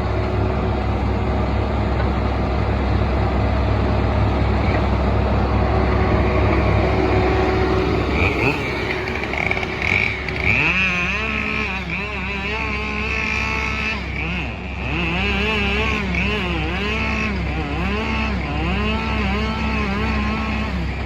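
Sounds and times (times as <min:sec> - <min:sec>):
skid steer engine running hard: 0:00.0 - 0:21.0.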